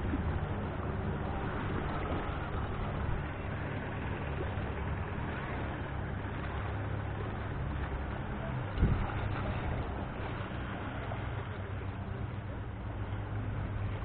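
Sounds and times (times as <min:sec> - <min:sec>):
boat diesel engine humming: 0:00.0 - 0:14.0.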